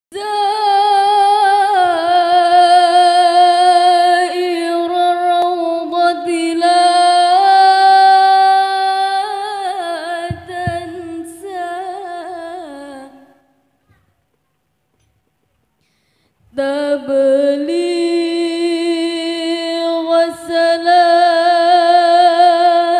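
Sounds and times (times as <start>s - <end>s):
person singing unaccompanied: 0.1s - 13.6s, 16.5s - 22.9s.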